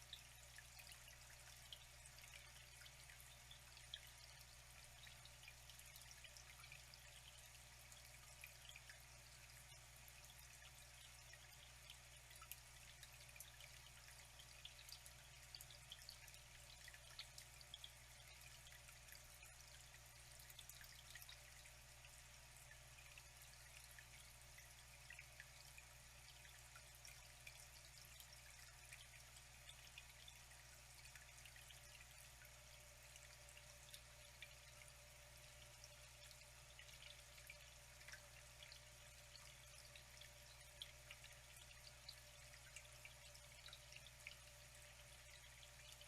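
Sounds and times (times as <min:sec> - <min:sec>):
water trickling and dripping: 0:00.0 - 0:46.0.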